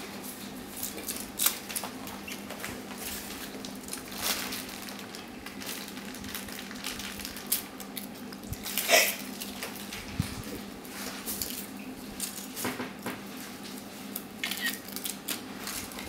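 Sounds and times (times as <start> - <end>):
foil wrapper crinkling: 0.3 - 12.6, 13.4 - 16.0.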